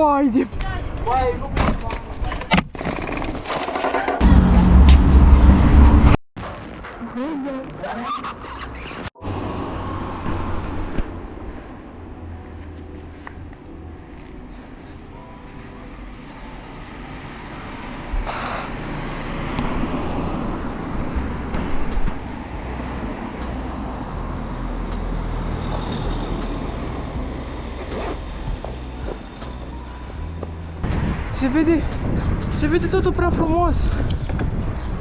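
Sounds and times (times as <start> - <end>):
road and traffic rumble: 0.0 - 6.2, 7.6 - 35.0.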